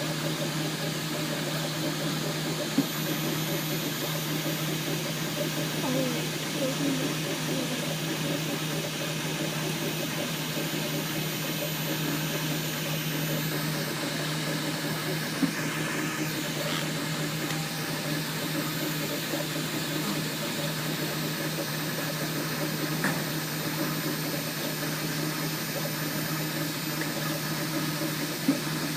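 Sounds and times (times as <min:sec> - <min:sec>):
printer fans and motors whirring: 0:00.0 - 0:28.9.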